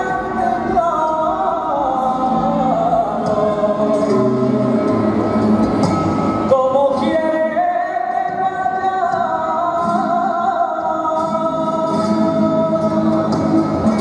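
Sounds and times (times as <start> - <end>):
man singing flamenco: 0.0 - 5.4, 6.3 - 14.0.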